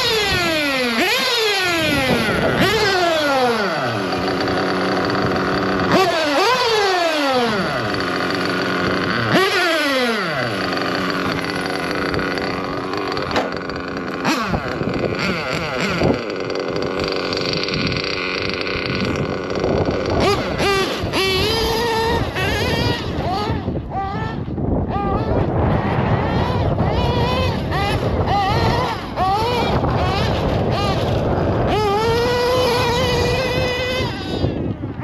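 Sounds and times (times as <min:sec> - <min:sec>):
nitro engine revving: 0:00.0 - 0:35.0.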